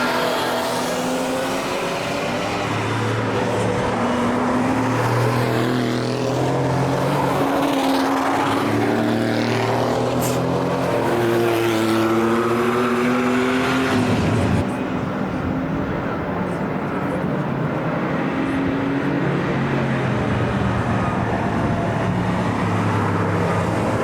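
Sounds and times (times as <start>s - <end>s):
race cars passing: 0.0s - 24.0s.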